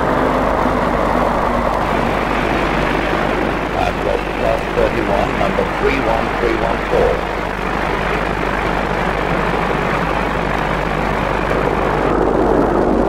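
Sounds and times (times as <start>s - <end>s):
low hum: 0.0s - 13.0s
train rumbling: 0.0s - 13.0s.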